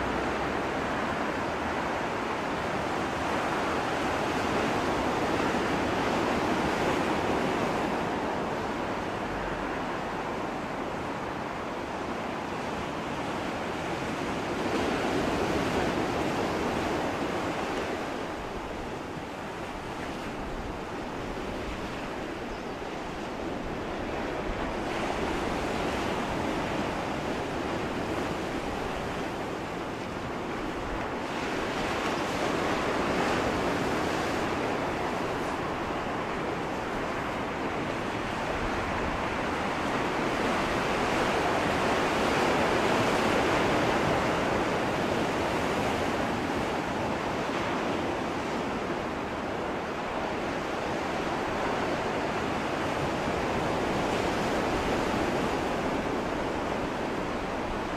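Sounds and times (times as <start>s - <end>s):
waves breaking: 0.0s - 57.9s.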